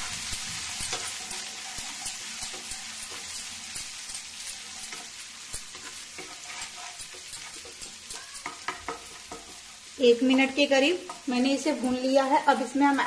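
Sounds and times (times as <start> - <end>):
garlic and ginger sizzling in oil: 0.0 - 13.0
wooden spatula scraping pan: 0.6 - 12.1.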